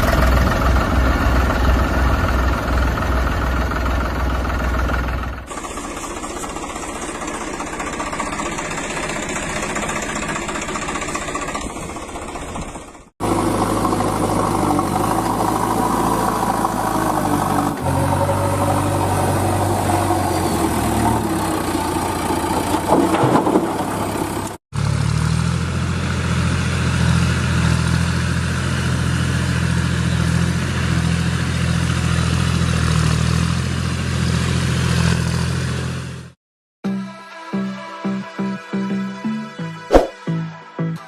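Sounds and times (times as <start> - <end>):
tractor engine running: 0.0 - 36.4.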